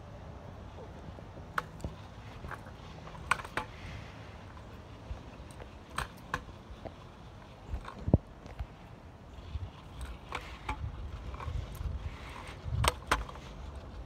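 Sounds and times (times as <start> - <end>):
scooter wheels rumbling on pavement: 0.0 - 14.0.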